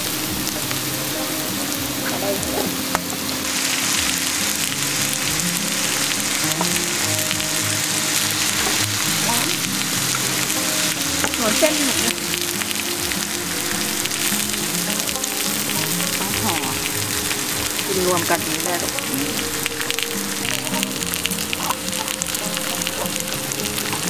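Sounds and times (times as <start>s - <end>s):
pork sizzling on grill pan: 0.0s - 24.0s.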